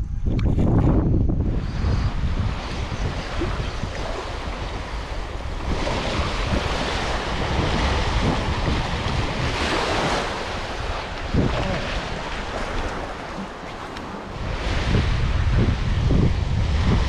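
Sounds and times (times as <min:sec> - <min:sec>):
wind rumbling on microphone: 0:00.0 - 0:17.0
small waves breaking on shore: 0:01.6 - 0:17.0.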